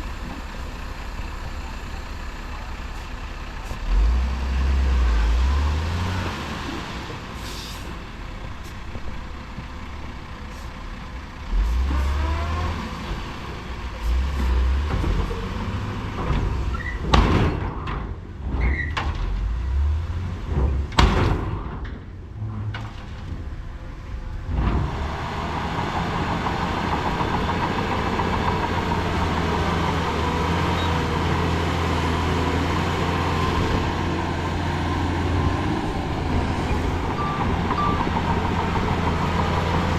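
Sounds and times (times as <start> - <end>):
diesel earthmoving engine running: 0.0 - 39.9.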